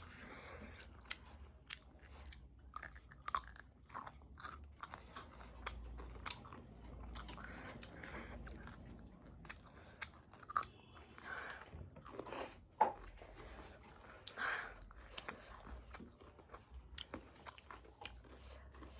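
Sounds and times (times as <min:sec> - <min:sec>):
person chewing and biting: 0:00.0 - 0:18.9.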